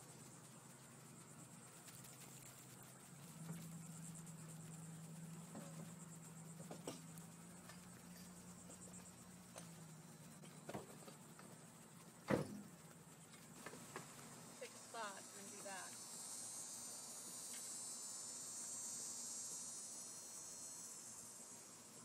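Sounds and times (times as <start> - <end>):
insects trilling: 0.0 - 22.0
low steady hum: 0.0 - 22.0.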